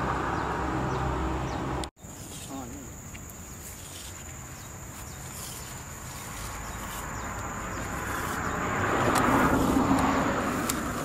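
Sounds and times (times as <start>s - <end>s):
vehicle approaching on road: 0.0s - 2.1s, 4.0s - 11.0s
high insect drone: 0.2s - 11.0s.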